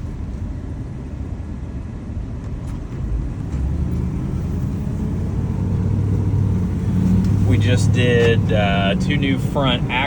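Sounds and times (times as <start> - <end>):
road noise: 0.0 - 10.0
truck engine: 0.0 - 10.0.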